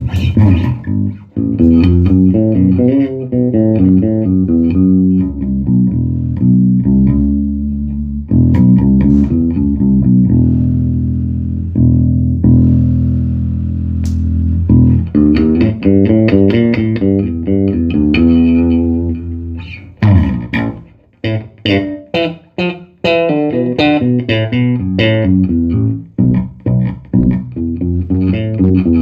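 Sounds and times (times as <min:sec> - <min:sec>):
electric bass guitar notes: 0:00.0 - 0:29.0.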